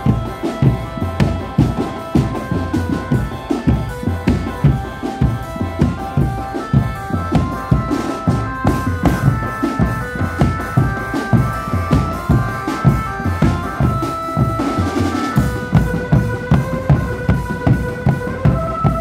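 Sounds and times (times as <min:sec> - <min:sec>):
bass drums beating: 0:00.0 - 0:19.0
marching drum band playing: 0:00.0 - 0:19.0.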